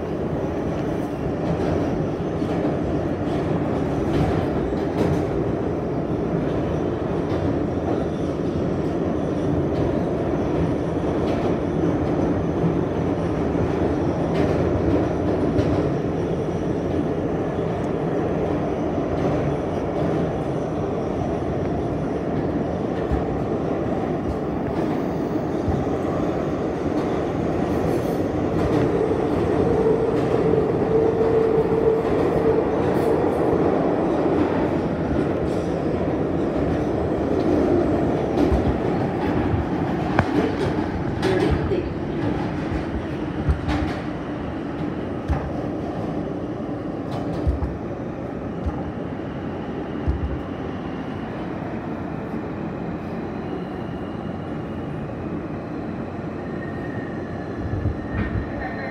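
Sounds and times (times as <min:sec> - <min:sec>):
subway wheels rumbling on rail: 0:00.0 - 0:58.9.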